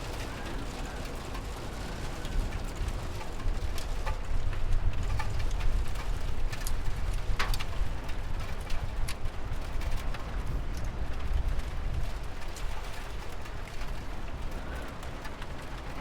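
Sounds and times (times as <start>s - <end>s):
raindrops ticking sharply: 0.0s - 16.0s
steady rain: 0.0s - 16.0s.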